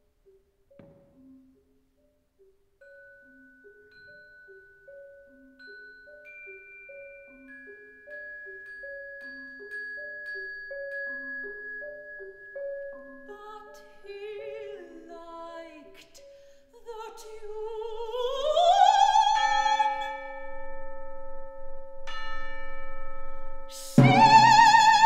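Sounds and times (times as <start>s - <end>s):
bell-like mallet instrument notes: 2.8s - 15.8s, 17.6s - 25.0s.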